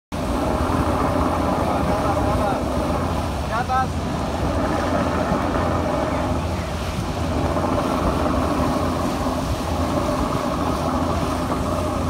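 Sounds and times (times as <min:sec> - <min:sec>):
motorboat engine running: 0:00.1 - 0:12.0
water rushing from wake: 0:00.1 - 0:12.0.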